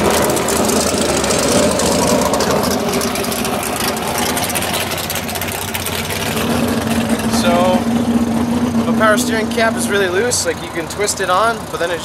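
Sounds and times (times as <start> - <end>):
racing car engine idling: 0.0 - 12.0.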